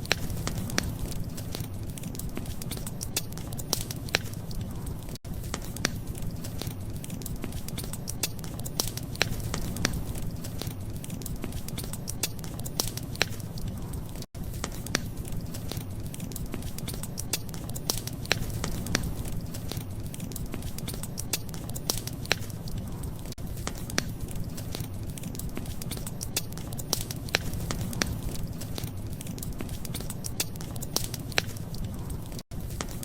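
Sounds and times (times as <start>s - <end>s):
fireplace fire crackling: 0.0s - 33.0s
sharp pops of fire: 0.0s - 33.0s.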